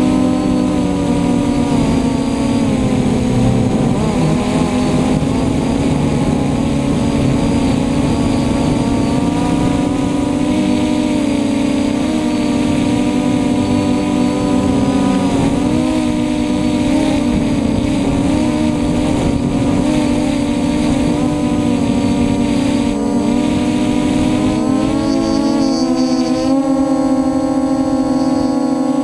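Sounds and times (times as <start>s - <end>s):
drone motors buzzing whine: 0.0s - 29.0s.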